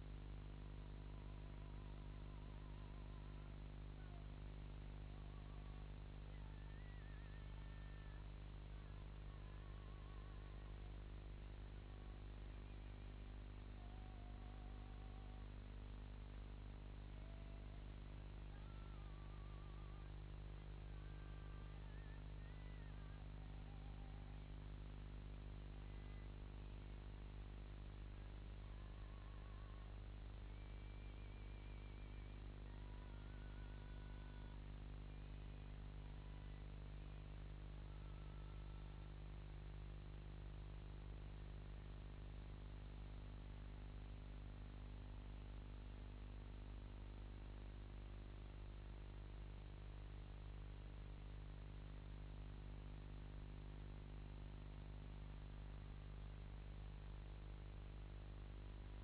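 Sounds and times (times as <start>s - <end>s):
film soundtrack hum and hiss: 0.0s - 59.0s.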